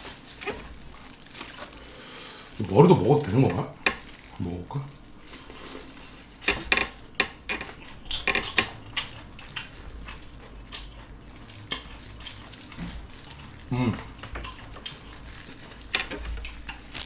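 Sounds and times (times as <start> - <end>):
wet crackling of shrimp shells: 0.0 - 17.0.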